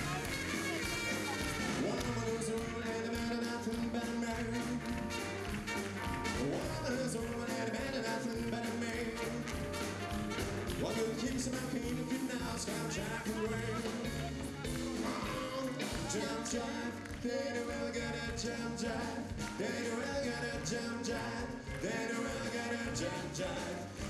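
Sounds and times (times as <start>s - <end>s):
person singing: 0.0s - 5.4s, 6.2s - 9.9s, 10.7s - 24.0s
blues band playing: 0.0s - 24.0s.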